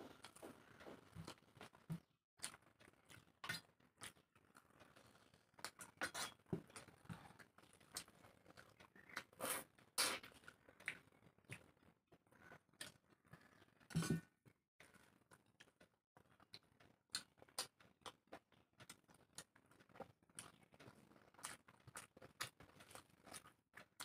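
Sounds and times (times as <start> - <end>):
soft chewing: 0.0 - 24.0.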